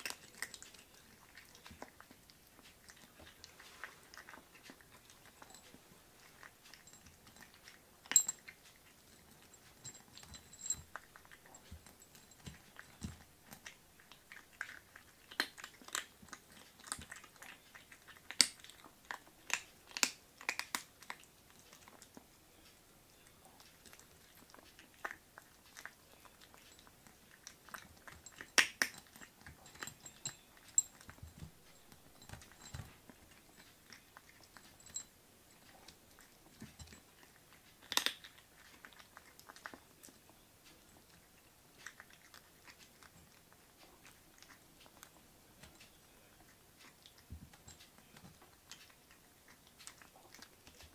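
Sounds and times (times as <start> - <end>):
kittens crunching dry kibble: 0.0 - 50.9.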